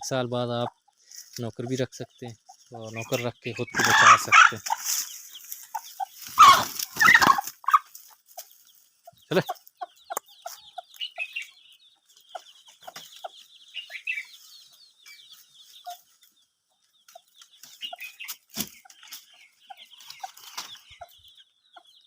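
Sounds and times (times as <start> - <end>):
chicks cheeping: 0.0 - 22.0
hen clucking: 0.0 - 22.0.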